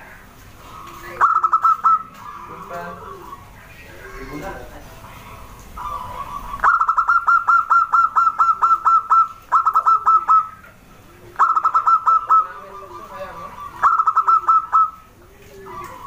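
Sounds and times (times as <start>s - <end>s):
dove calling rapid notes: 0.0s - 16.0s.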